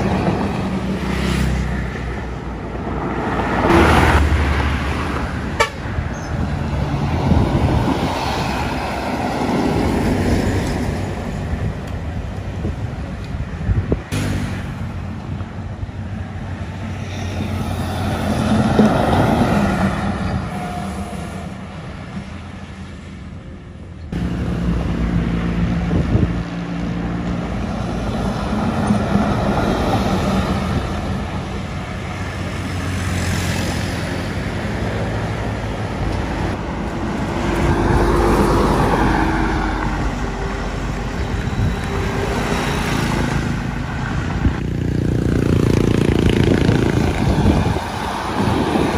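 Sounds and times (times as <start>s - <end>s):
diesel buses passing: 0.0s - 48.9s.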